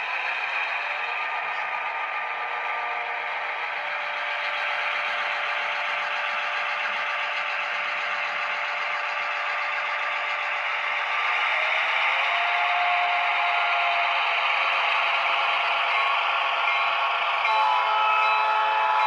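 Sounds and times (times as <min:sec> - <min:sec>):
model locomotive motor whirring: 0:00.0 - 0:19.0.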